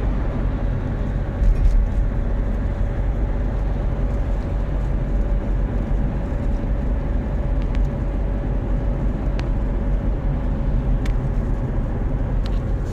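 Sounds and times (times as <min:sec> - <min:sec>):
car engine rumble: 0:00.0 - 0:12.9.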